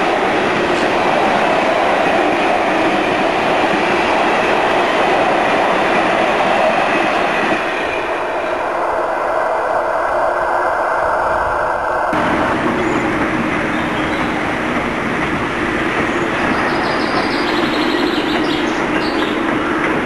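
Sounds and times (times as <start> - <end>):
train wagons rumbling and rattling: 0.0 - 20.0.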